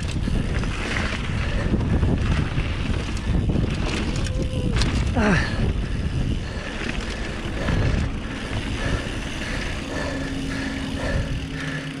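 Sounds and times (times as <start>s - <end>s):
wind buffeting microphone: 0.0s - 11.9s
bike tyre rumble on dirt: 0.0s - 12.0s.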